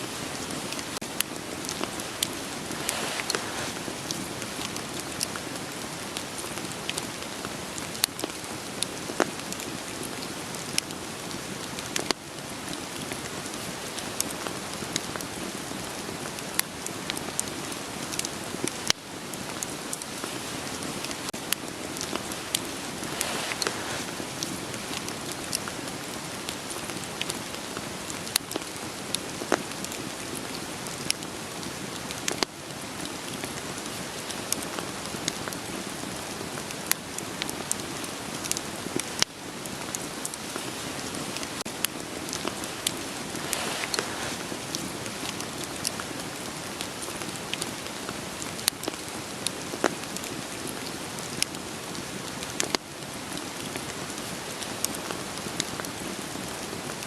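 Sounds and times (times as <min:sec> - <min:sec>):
steady rain falling: 0:00.0 - 0:57.0
firewood crackling and popping: 0:00.2 - 0:57.0.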